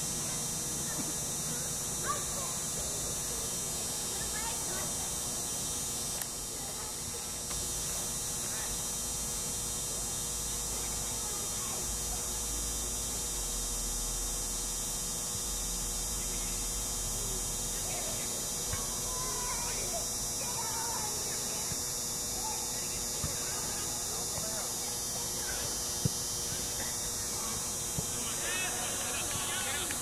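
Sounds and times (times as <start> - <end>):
constant hiss: 0.0 - 30.0
steady hum: 0.0 - 30.0.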